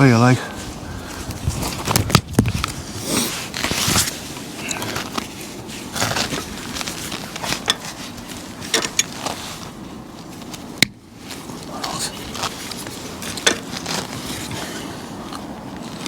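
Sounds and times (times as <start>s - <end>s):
hands working cables and fittings: 1.1s - 16.0s.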